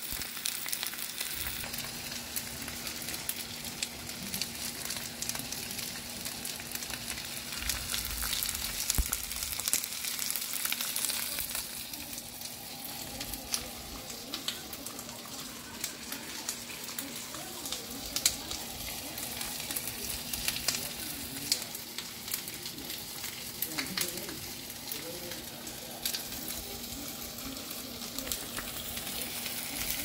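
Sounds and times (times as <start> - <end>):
dumplings sizzling in oil: 0.0 - 30.0.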